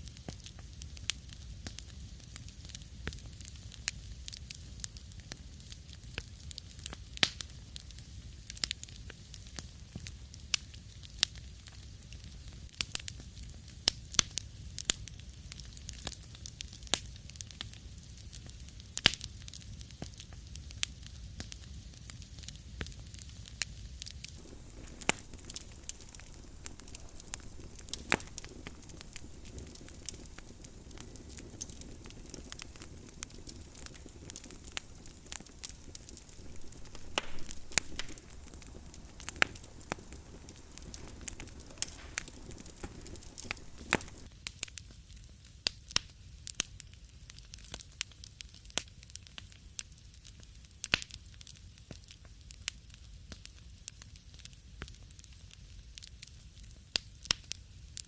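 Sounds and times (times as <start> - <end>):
wood fire crackling and popping: 0.0 - 44.9, 48.5 - 55.4, 56.2 - 57.6
low fire rumble and hiss: 0.0 - 58.0.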